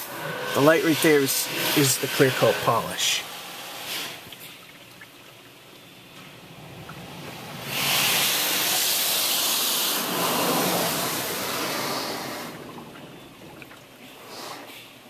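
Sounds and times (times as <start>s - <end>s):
car wash water spray hissing: 0.0s - 4.5s, 6.4s - 14.8s.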